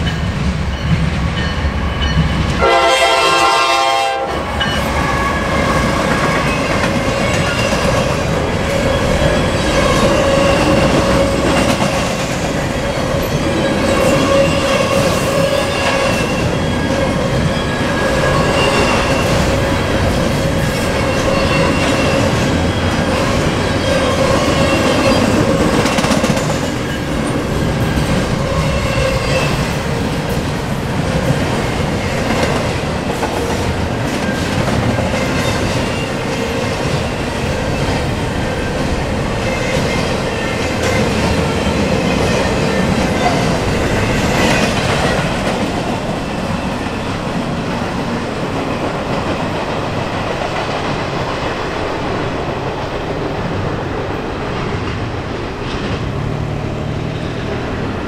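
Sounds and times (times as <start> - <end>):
clickety-clack of wheels on rails: 0.0 - 58.0
freight train rumbling past: 0.0 - 58.0.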